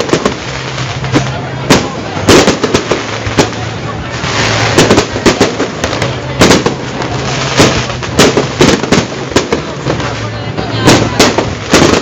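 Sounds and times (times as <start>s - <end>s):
fireworks banging: 0.0s - 12.0s
fireworks crackling hiss: 0.0s - 12.0s.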